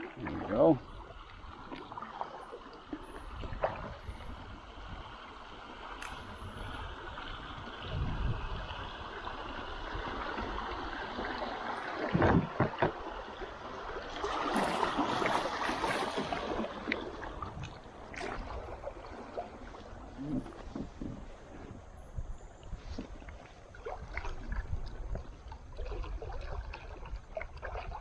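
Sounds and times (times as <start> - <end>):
river water splashing: 0.0 - 28.0.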